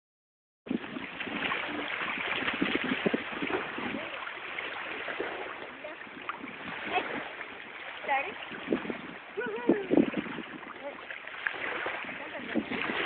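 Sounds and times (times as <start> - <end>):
waves lapping against shore: 0.7 - 13.0
wind on microphone: 0.7 - 13.0.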